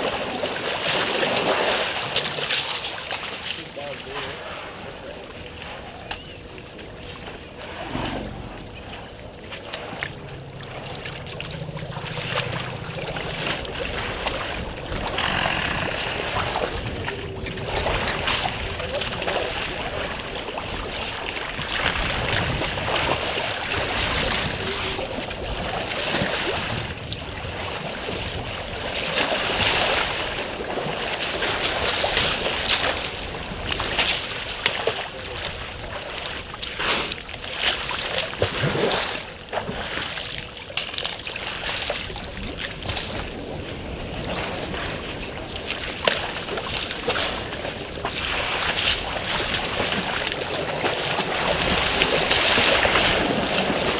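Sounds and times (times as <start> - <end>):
water sloshing: 0.0 - 53.9
water splashes: 0.0 - 53.9.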